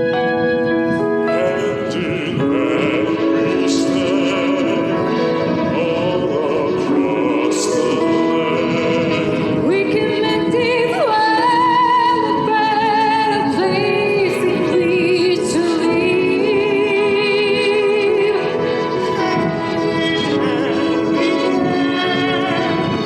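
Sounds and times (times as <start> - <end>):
woman singing with vibrato: 1.0 - 23.0.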